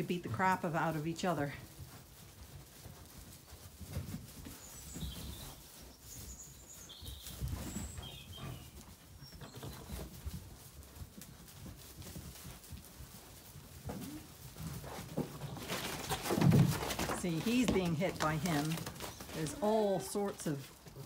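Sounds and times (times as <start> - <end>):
thuds of hooves and bodies: 0.0 - 21.0
sheep trampling in straw: 0.1 - 21.0.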